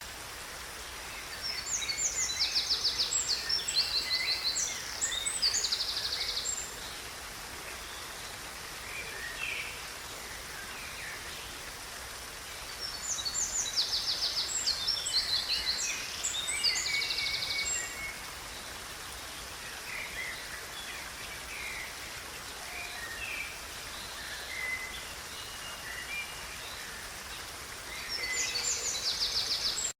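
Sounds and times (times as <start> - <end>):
steady hiss: 0.0 - 29.9.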